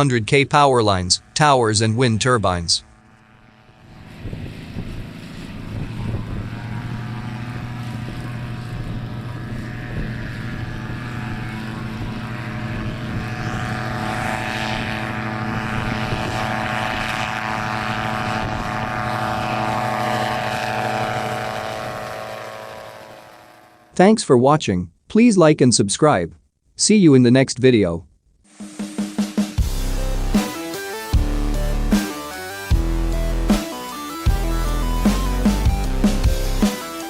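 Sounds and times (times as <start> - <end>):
propeller aircraft droning: 0.0 - 24.0, 29.4 - 37.0.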